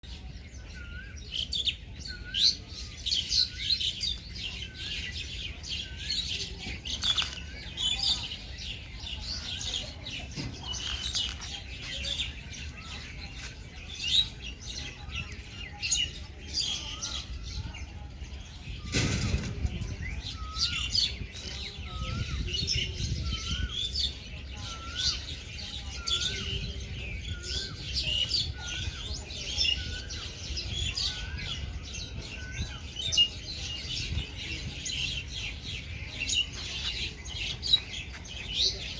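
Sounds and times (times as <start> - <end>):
birds chirping chorus: 0.0 - 38.9.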